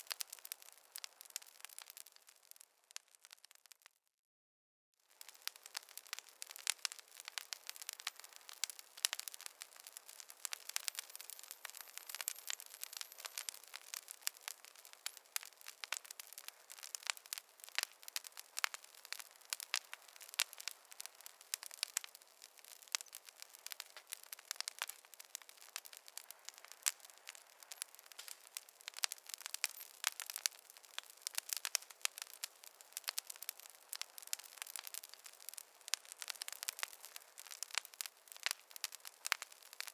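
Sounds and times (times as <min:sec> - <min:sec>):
wood fire crackling: 0:00.0 - 0:03.9, 0:05.0 - 0:39.9.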